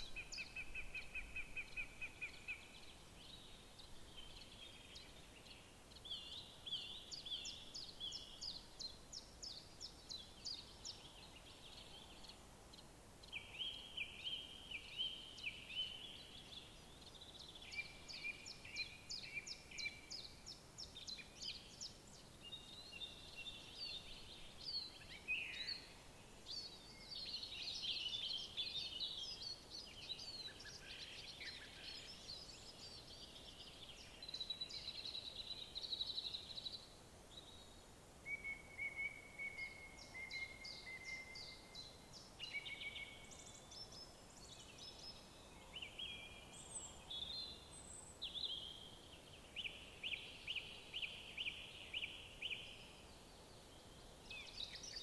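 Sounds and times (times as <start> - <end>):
faint background hiss: 0.0 - 55.0
songbirds singing: 0.0 - 55.0.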